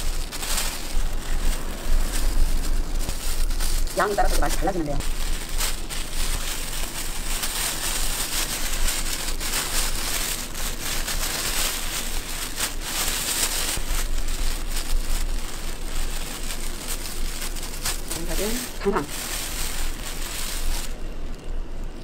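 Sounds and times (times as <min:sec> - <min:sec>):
plastic bags rustling: 0:00.0 - 0:22.0.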